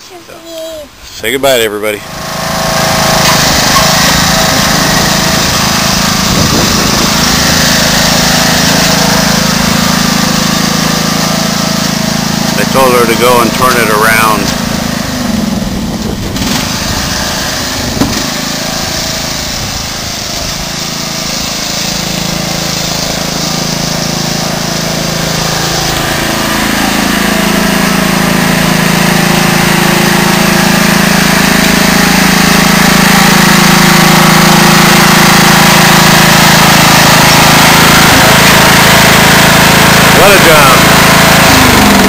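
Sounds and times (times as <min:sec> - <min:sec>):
riding lawn mower engine: 0:00.0 - 0:42.0.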